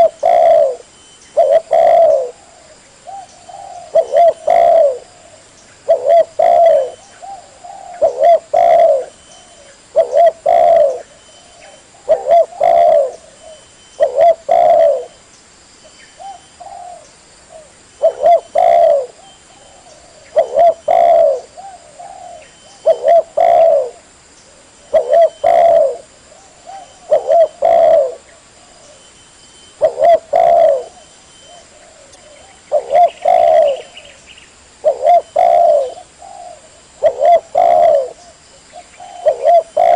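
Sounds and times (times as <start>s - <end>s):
dove cooing: 0.0s - 15.2s, 16.2s - 29.1s, 29.7s - 34.2s, 34.8s - 39.9s.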